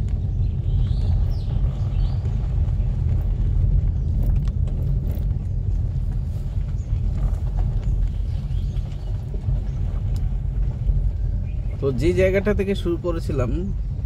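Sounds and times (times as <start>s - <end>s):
faint clicks and rattles: 0.0s - 12.7s
vehicle rumble: 0.0s - 14.0s.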